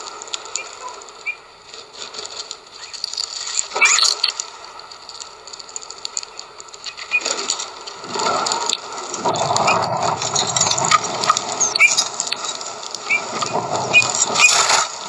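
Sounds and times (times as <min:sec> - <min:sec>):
rough rustling: 0:00.0 - 0:15.0.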